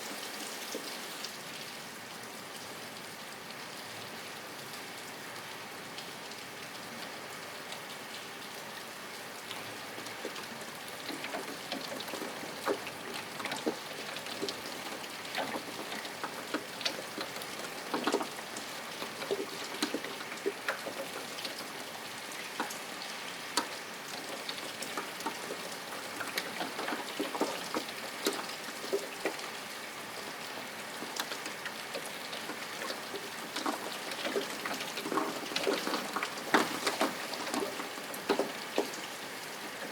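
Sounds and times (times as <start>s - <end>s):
raindrops striking close by: 0.0s - 39.9s
steady rain falling: 0.0s - 39.9s.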